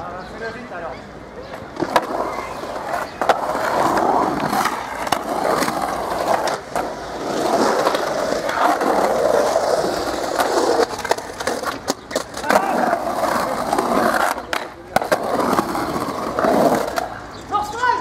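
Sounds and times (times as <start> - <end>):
skateboard wheels rolling on concrete: 0.0 - 18.0
skateboard clacks: 1.5 - 17.3.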